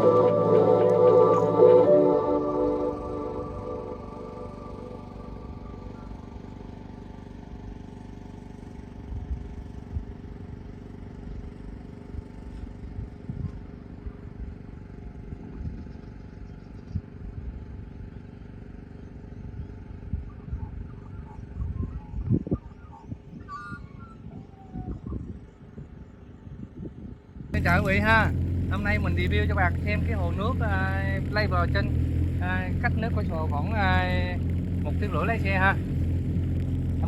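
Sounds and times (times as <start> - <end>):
vehicle engine rumbling: 0.0 - 37.0.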